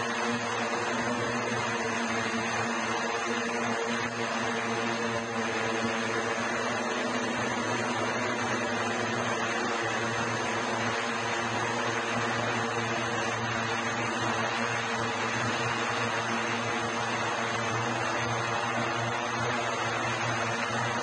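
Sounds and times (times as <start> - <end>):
electric propellers droning: 0.0 - 21.0.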